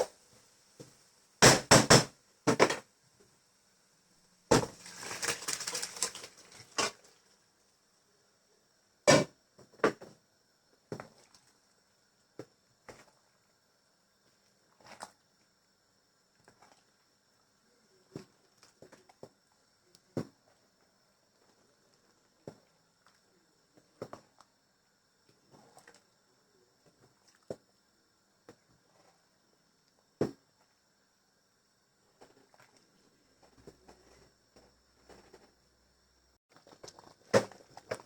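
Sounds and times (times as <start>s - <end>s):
faint high-pitched whine: 2.2s - 38.0s.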